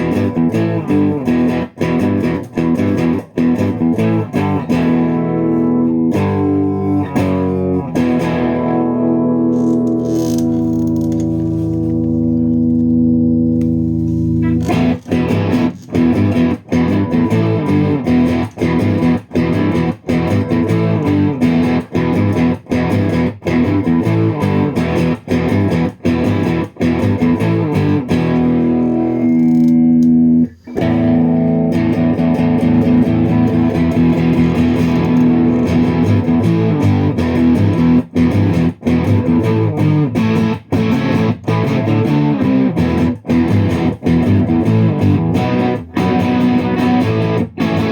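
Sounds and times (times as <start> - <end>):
electric guitar playing: 0.0 - 47.9.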